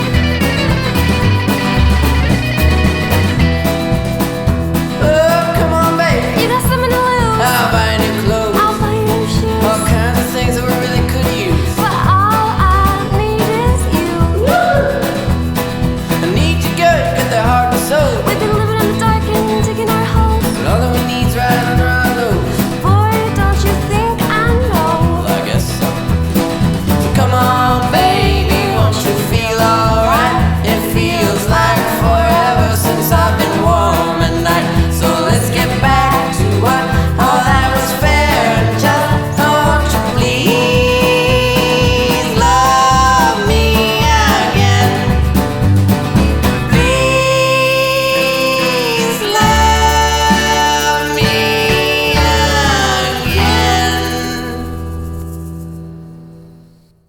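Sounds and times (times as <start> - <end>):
person singing: 0.0 - 3.6, 4.8 - 55.2
country music with guitar: 0.0 - 57.0.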